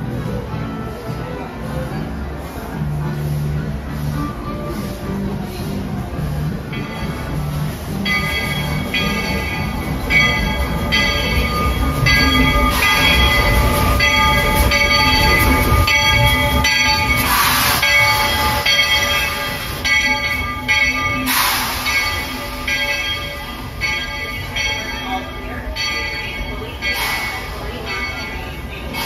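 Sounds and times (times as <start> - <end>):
train low rumble: 0.0 - 29.0
steam hissing: 1.7 - 29.0
locomotive bell ringing: 4.2 - 29.0.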